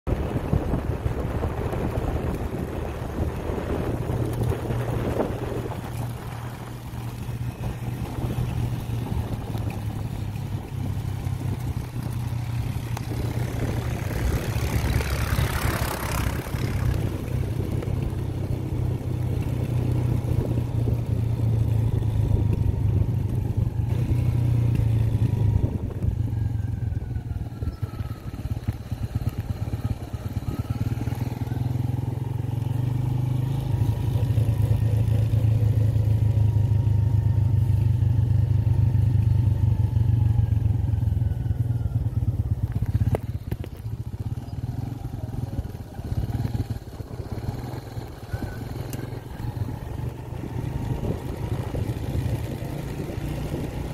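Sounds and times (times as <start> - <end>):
wind rushing over microphone: 0.1 - 37.0, 38.3 - 53.9
motorcycle engine running: 0.1 - 53.9.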